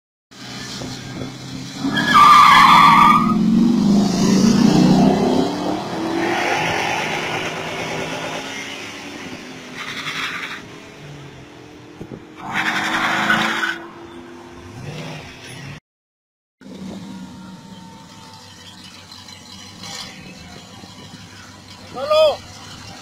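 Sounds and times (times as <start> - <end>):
race car engines accelerating: 0.4 - 15.8, 16.6 - 23.0.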